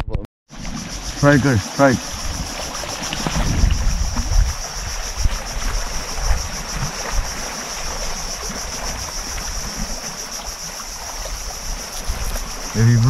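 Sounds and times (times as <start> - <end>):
water at rocky shore: 0.5 - 13.0
wind rumble on microphone: 0.6 - 13.0.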